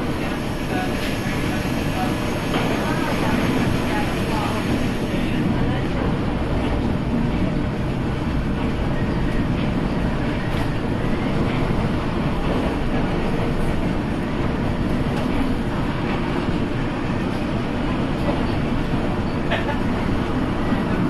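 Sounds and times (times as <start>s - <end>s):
monorail car running: 0.0s - 21.0s.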